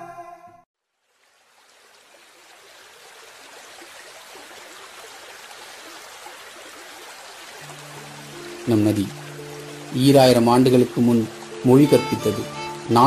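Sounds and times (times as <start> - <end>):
running water rushing: 0.9 - 13.0.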